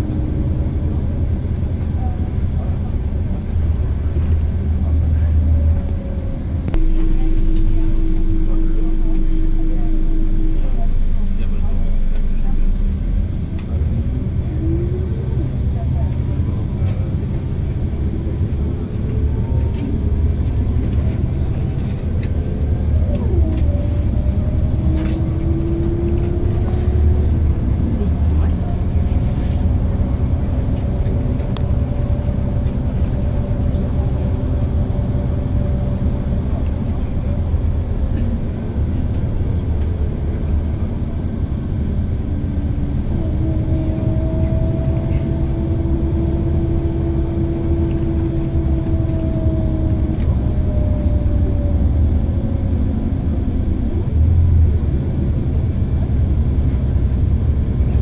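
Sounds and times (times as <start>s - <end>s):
diesel engine rumble: 0.0s - 58.0s.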